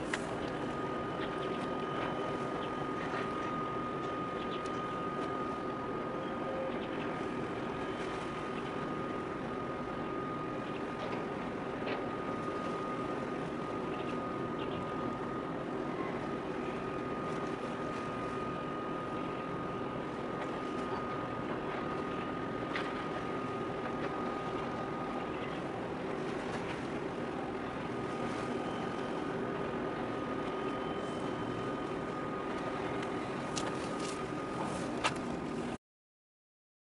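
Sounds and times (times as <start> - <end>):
ship engine drone: 0.0 - 35.8
thin steady whine: 0.0 - 35.8.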